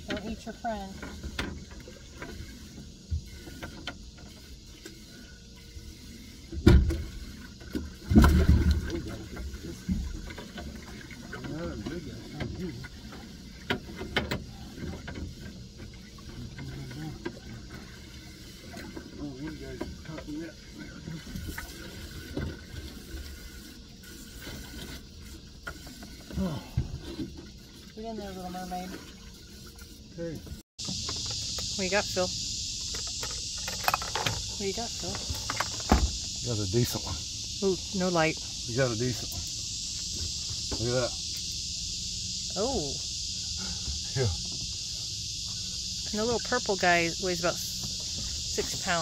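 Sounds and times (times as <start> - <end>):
water splashing against a boat: 0.0 - 49.0.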